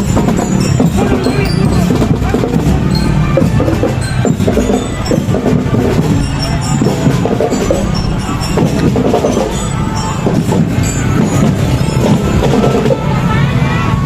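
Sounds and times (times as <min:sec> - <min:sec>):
marching band playing: 0:00.0 - 0:13.5
drums and percussion beating: 0:00.0 - 0:13.6.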